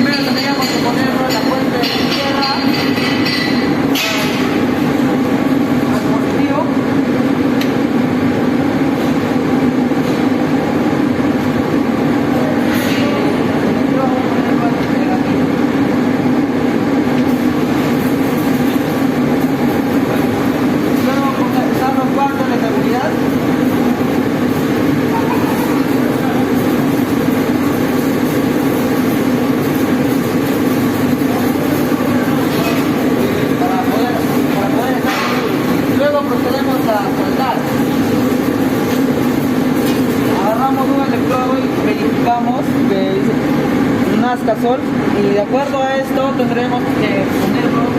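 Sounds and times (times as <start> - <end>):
workshop machinery drone: 0.0 - 47.9.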